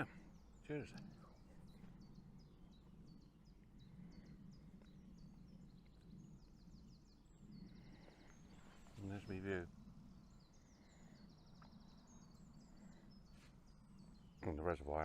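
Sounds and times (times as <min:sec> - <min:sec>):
faint low rumble: 0:00.0 - 0:15.0
small bird chirping: 0:00.0 - 0:15.0.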